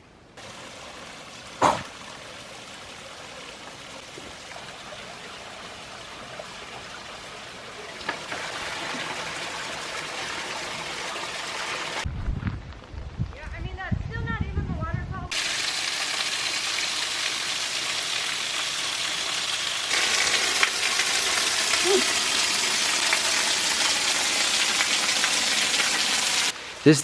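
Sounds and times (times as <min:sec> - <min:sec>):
small waterfall splashing: 0:00.4 - 0:12.1, 0:15.3 - 0:27.0.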